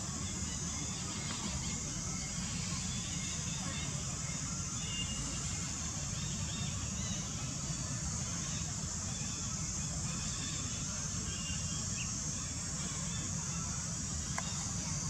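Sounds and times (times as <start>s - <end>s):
high insect drone: 0.0s - 15.0s
faint bird chirps: 0.2s - 15.0s.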